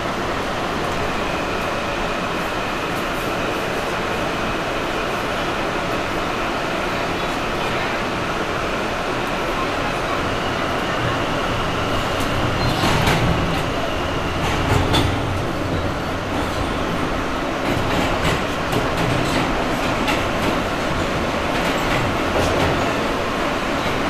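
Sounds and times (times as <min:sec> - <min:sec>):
subway car rumble and hiss: 0:00.0 - 0:24.0.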